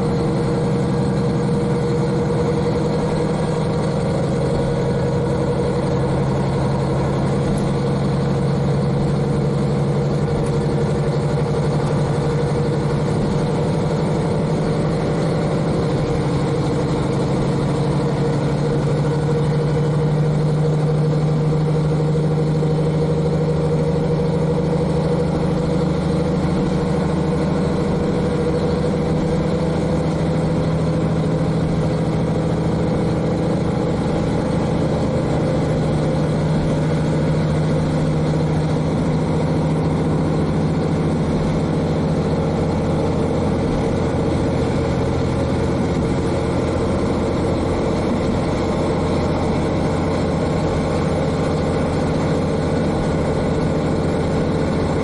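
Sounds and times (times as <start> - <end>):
railcar diesel engine running: 0.0 - 55.0.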